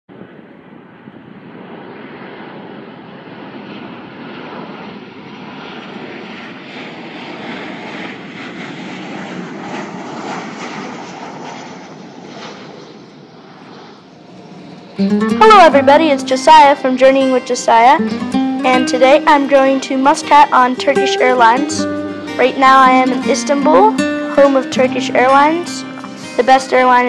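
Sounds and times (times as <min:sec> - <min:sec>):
jet engines rushing in cabin: 0:00.1 - 0:27.0.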